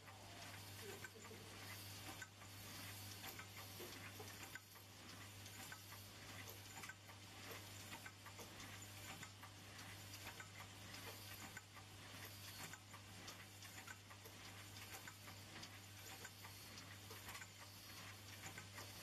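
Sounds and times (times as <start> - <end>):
light mechanical clicks and ticks: 0.0 - 19.0.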